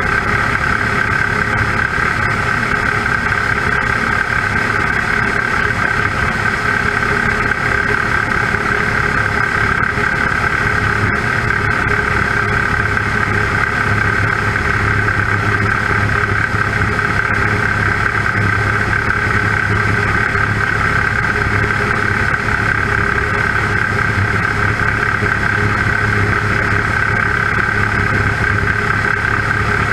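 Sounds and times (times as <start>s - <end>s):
aircraft engine and propeller running: 0.0s - 29.9s.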